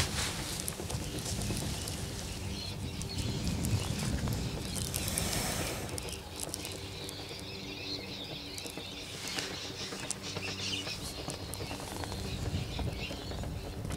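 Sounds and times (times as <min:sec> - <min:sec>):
small clicks and rustles: 0:00.0 - 0:07.7, 0:08.3 - 0:13.9
bird chirps: 0:00.0 - 0:13.9.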